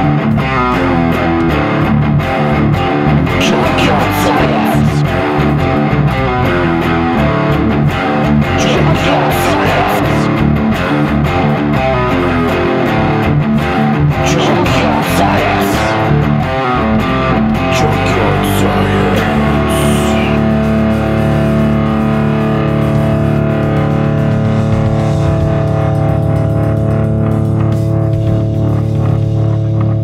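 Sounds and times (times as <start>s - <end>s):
guitar background music: 0.0s - 30.0s.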